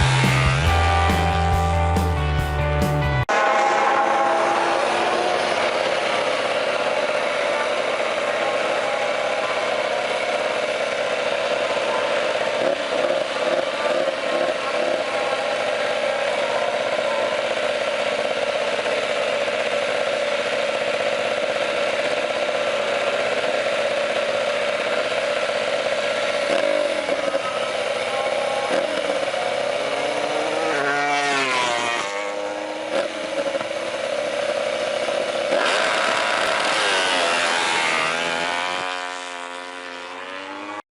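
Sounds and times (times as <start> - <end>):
racing motorcycle engine revving: 0.0 - 2.5, 3.2 - 40.8.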